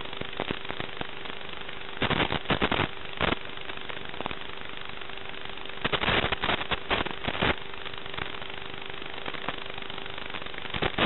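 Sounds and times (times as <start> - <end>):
faint steady hum: 0.0 - 11.0
static crackling: 0.0 - 11.0
static hiss: 0.0 - 11.0.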